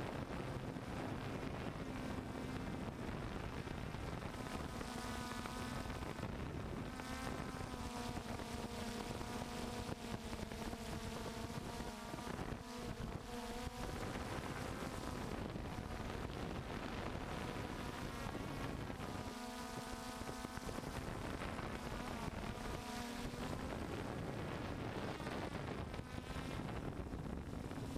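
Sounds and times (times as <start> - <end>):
drone propellers buzzing: 0.0 - 27.9
wind rushing over microphone: 0.0 - 27.9.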